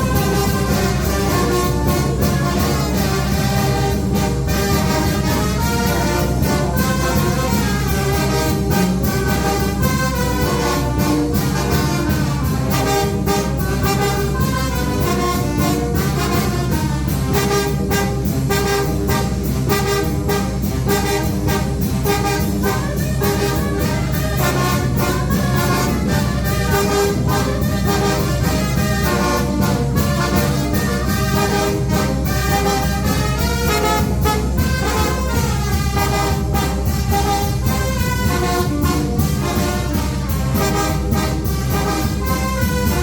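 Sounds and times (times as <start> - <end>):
brass band playing: 0.0 - 43.0
steady percussion beat: 0.0 - 43.0
trumpets and trombones melody: 0.0 - 43.0.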